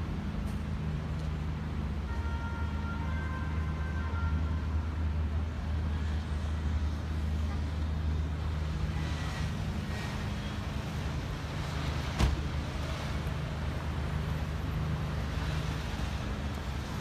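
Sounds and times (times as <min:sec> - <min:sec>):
street traffic engine hum: 0:00.0 - 0:17.0.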